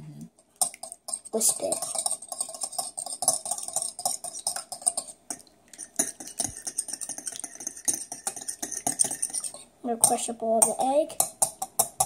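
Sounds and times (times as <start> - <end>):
whisk clicking against bowl: 0.6 - 12.0.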